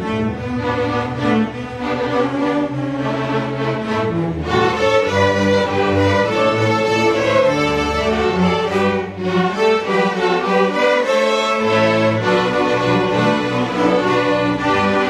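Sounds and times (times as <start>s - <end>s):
string orchestra playing: 0.0s - 15.0s.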